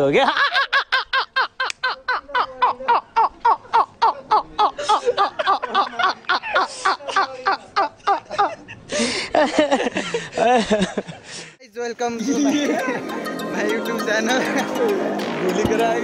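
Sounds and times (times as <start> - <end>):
men laughing hard: 0.1 - 11.3, 12.2 - 15.4.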